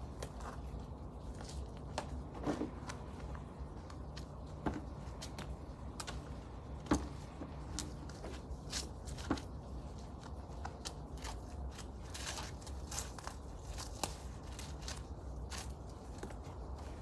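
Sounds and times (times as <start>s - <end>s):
low background rumble: 0.0s - 17.0s
rustling weeds being pulled: 0.0s - 17.0s.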